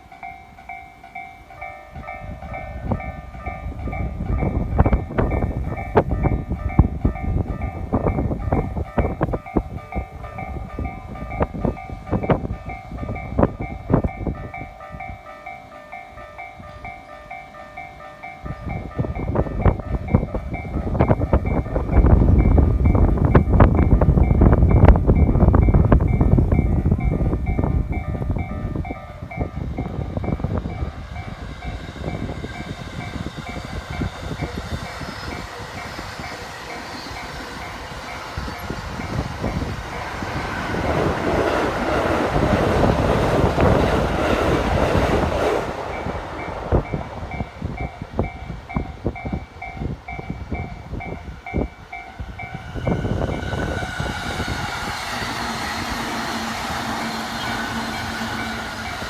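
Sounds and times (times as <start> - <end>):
train rushing past: 0.0 - 59.0.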